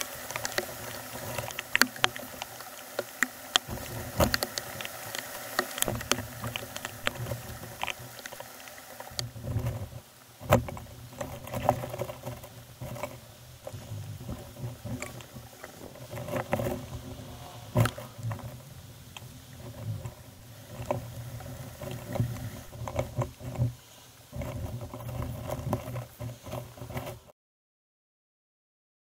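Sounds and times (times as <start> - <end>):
squirrel scratching and rustling leaves: 0.0 - 27.3.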